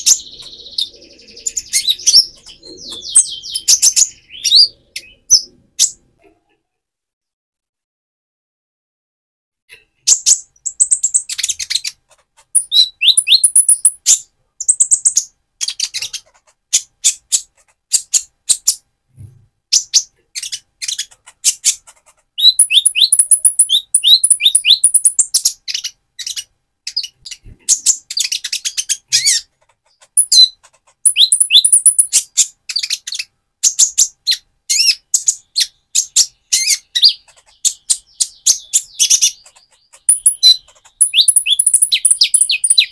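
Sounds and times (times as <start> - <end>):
bird singing fast twitters: 0.0 - 6.0, 10.0 - 18.8, 19.7 - 42.9.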